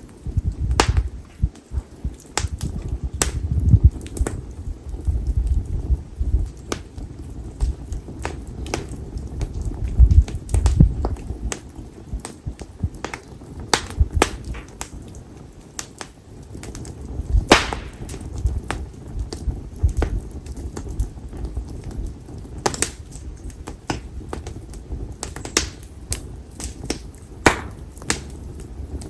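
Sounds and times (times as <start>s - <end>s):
firewood crackling: 0.0s - 29.0s.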